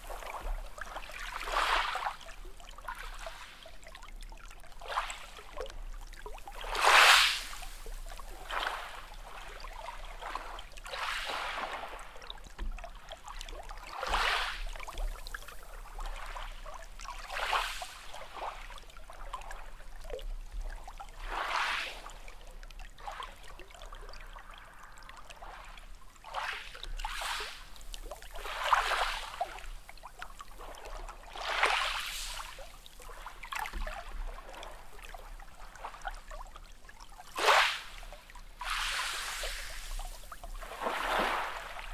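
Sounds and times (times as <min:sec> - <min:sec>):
small waves lapping at shore: 0:00.0 - 0:41.9.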